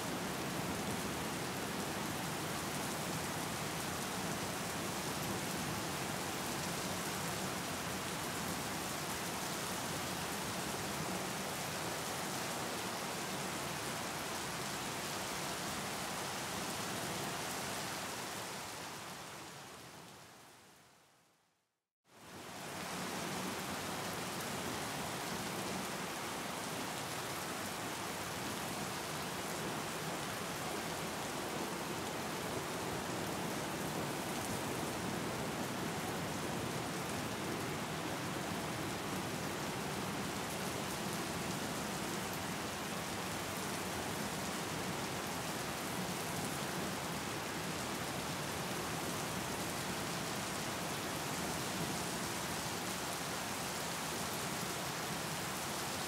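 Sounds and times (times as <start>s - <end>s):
steady rain: 0.0s - 21.4s, 22.1s - 56.0s.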